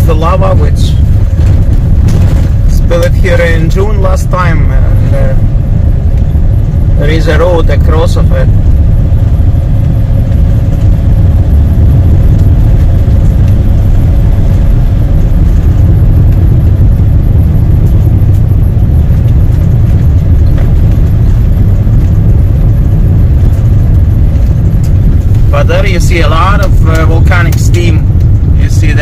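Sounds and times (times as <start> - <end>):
car rumbling on rough road: 0.0 - 29.0.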